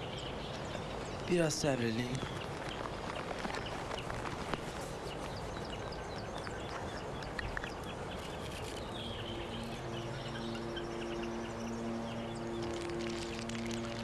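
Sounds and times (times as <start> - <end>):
background hiss: 0.0 - 14.0
small birds chirping: 0.0 - 14.0
soft film score low notes: 0.0 - 14.0.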